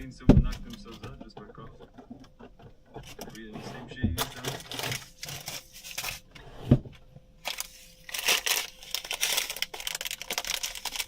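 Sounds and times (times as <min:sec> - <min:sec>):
crinkling and rustling: 0:00.4 - 0:11.0.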